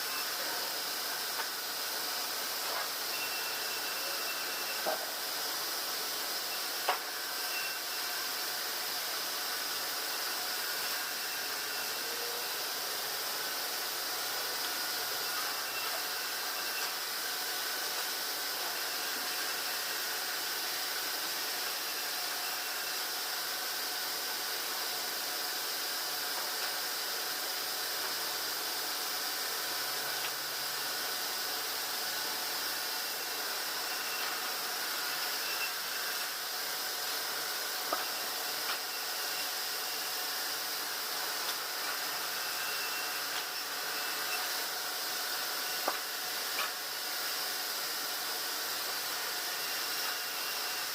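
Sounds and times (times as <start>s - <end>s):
sawmill machinery hissing: 0.0s - 50.9s.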